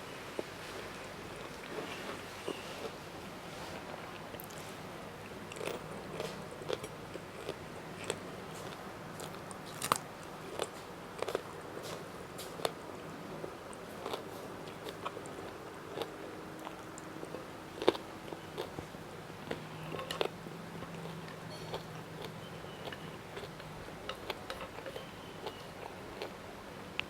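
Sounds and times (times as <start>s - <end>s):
crunchy chewing: 3.8s - 26.4s.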